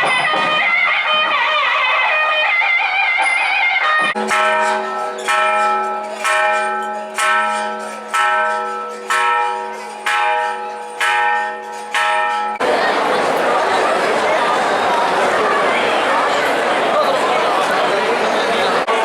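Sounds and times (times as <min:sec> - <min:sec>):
large temple bell ringing: 0:00.0 - 0:19.0.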